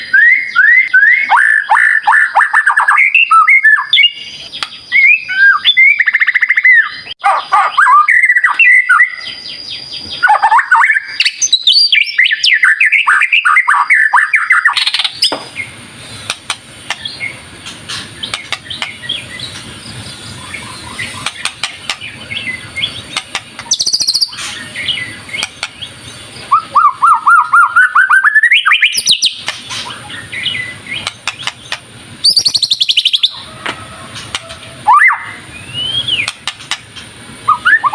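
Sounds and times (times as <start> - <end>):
bird singing whistles and trills: 0.0 - 15.7, 18.2 - 33.5, 34.8 - 36.5, 37.4 - 37.9.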